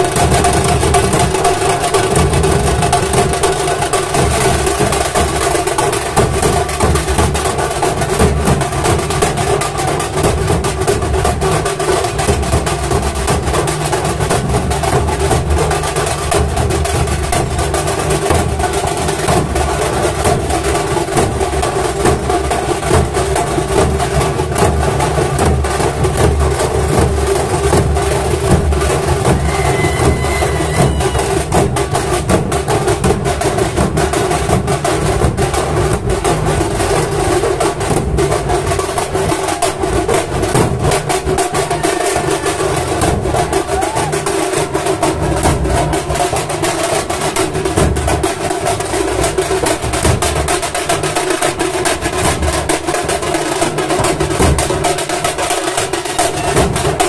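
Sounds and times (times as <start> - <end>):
massed drums beating: 0.0 - 57.0.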